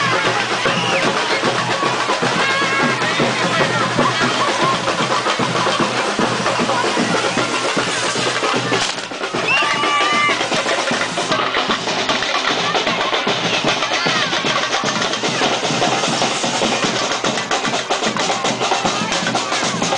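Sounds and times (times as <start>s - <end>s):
drums beating fast rhythm: 0.0s - 19.9s
fireworks fountains hissing: 0.0s - 19.9s.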